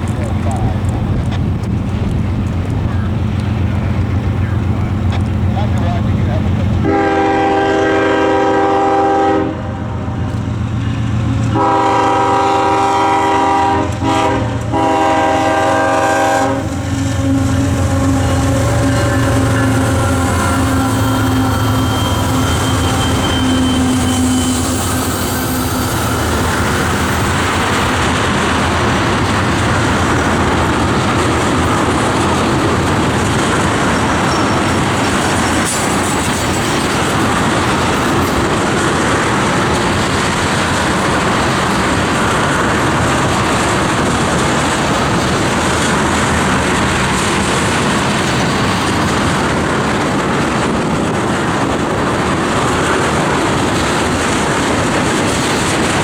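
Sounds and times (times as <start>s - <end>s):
clickety-clack over rail joints: 0.0s - 8.7s, 9.4s - 56.0s
freight train wheels rumbling: 0.0s - 56.0s.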